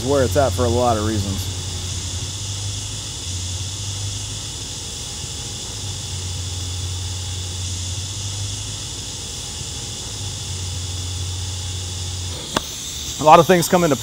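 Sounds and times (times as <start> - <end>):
low hum: 0.0 - 13.6
welding arc hiss: 0.0 - 14.0.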